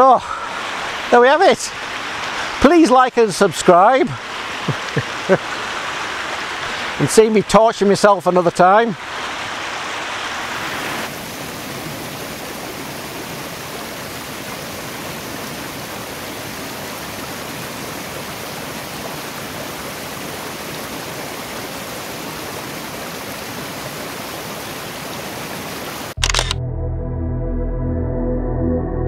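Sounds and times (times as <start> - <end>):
stream rushing over rocks: 0.0 - 26.2.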